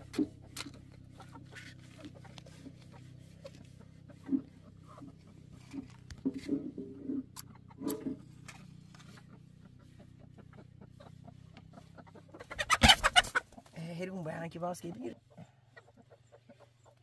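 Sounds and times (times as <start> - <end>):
hens cackling: 0.0 - 13.8, 14.8 - 17.0
hens clucking: 0.0 - 17.0.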